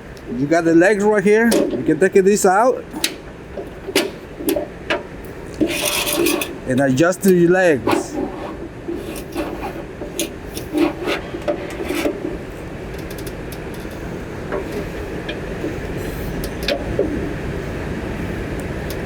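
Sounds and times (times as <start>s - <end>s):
metal steps clicking and scraping: 0.0s - 19.0s.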